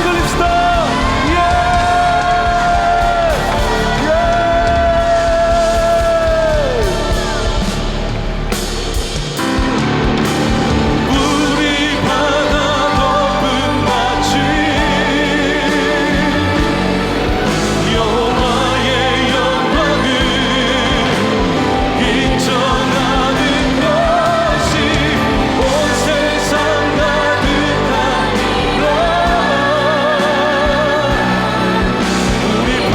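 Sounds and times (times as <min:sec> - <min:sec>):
people singing: 0:00.0 - 0:32.9
worship band playing: 0:00.0 - 0:32.9.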